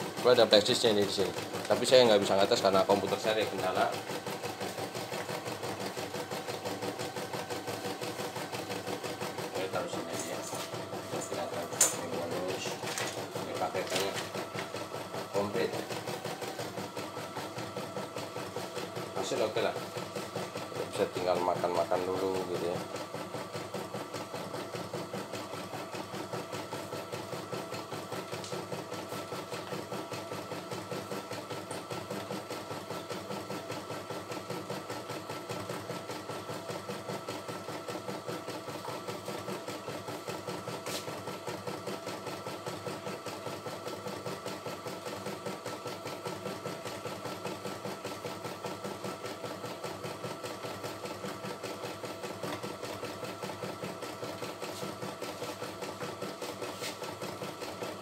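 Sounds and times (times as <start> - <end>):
embroidery machine stitching: 0.0 - 58.0.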